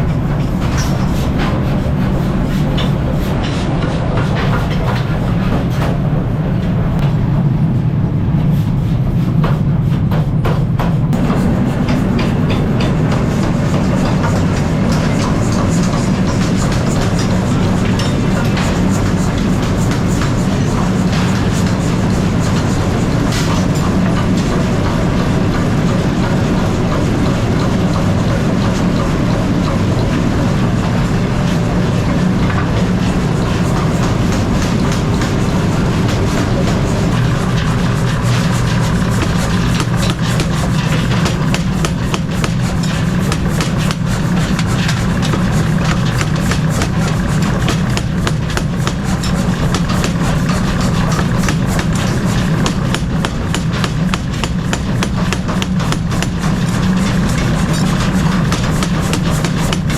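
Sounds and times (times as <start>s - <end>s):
clanks and knocks: 0.0s - 7.4s, 8.9s - 59.9s
machinery low rumble: 0.0s - 59.9s.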